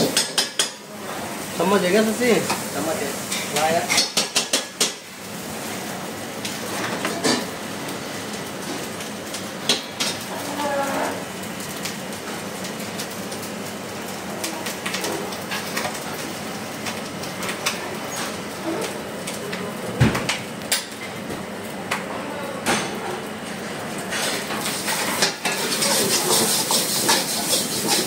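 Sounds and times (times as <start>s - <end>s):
rice frying in a wok: 0.0s - 28.0s.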